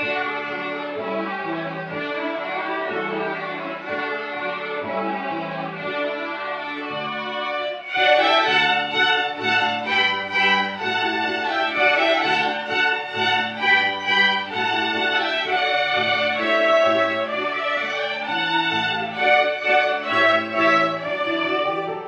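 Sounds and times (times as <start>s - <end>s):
violin ensemble playing: 0.0s - 22.0s.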